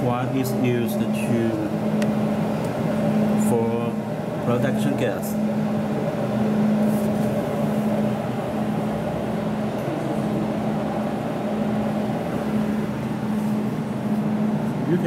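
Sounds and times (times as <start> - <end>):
low mechanical hum of machine: 0.0 - 15.0.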